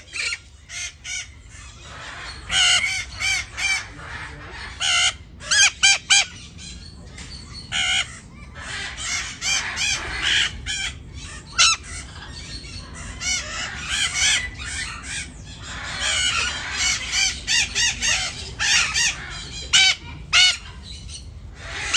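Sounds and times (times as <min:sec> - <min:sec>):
parrots squawking and chirping: 0:00.0 - 0:21.9.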